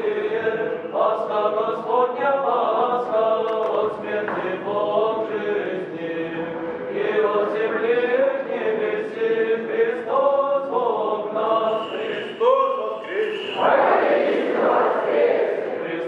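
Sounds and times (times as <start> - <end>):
male choir chanting: 0.0 - 16.0.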